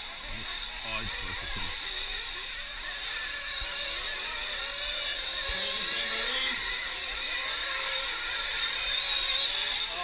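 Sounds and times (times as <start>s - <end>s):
rc truck engines buzzing: 0.0s - 10.0s.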